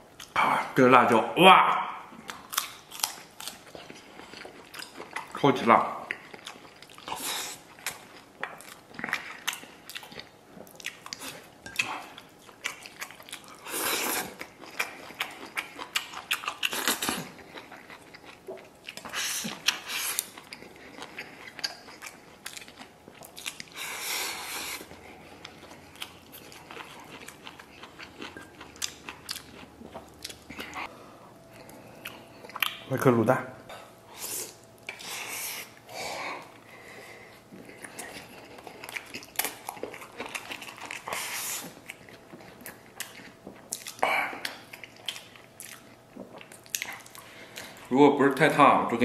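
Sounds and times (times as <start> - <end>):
person chewing and biting: 2.2 - 5.4, 6.1 - 30.9, 31.5 - 32.9, 34.1 - 47.9.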